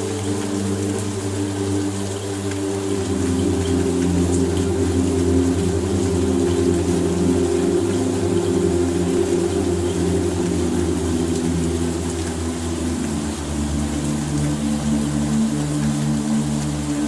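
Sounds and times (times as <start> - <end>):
faint hiss: 0.0 - 17.0
low ambient music pad: 0.0 - 17.0.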